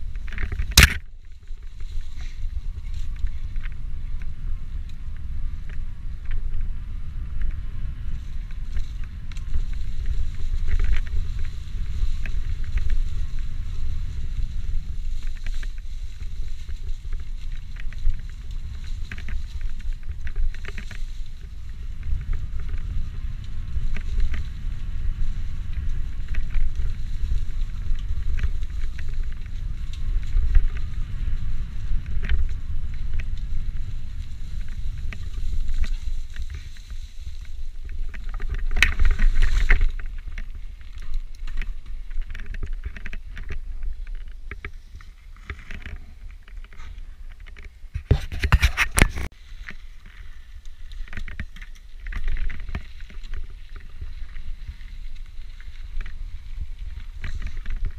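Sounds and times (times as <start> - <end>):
bike rattling and clicking: 0.0 - 57.9
wind rumbling on microphone: 0.0 - 57.9.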